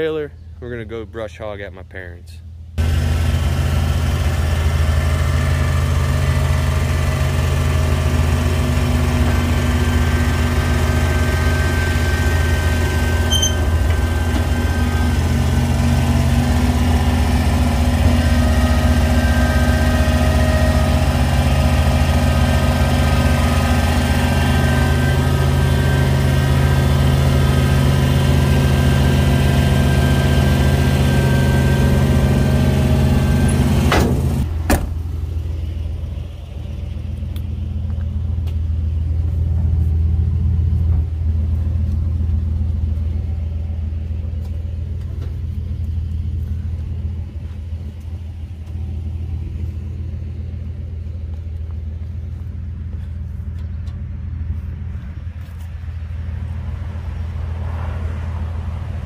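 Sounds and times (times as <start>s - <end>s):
vehicle engine running steadily: 0.0s - 59.0s.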